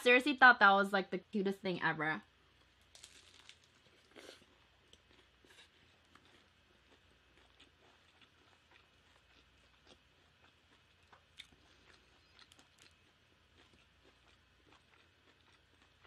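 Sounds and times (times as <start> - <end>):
person chewing food: 2.5 - 16.0.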